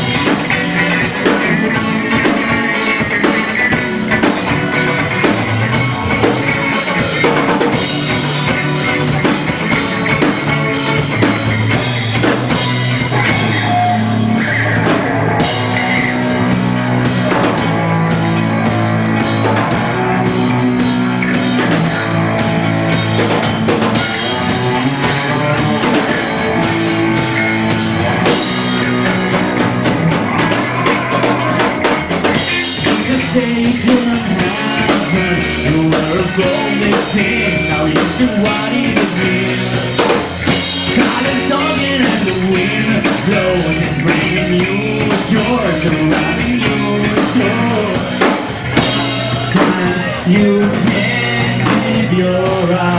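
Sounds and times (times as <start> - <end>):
drum kit beat: 0.0 - 52.9
electric guitar: 0.0 - 52.9
rock band playing live: 0.0 - 52.9.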